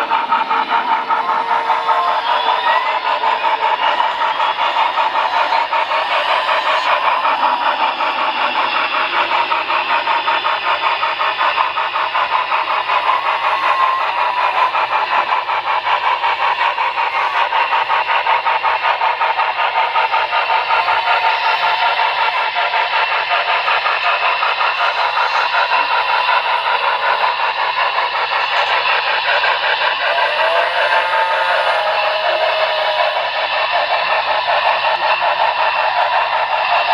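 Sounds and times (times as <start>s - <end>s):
model train rhythmic clatter: 0.0s - 36.9s.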